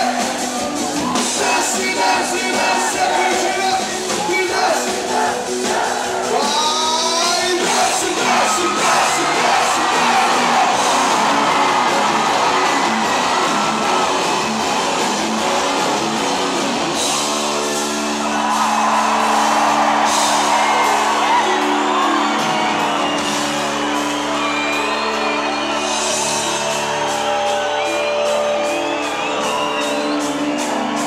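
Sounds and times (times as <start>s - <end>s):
crowd whooping and shouting: 0.0s - 31.0s
live worship band music: 0.0s - 31.0s.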